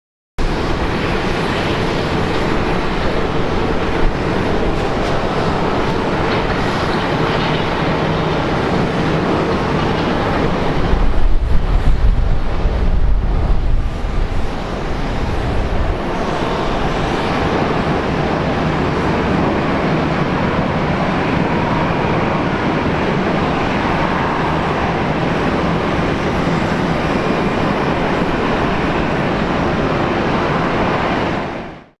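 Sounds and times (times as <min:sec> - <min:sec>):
jet airliner landing: 0:00.4 - 0:32.0.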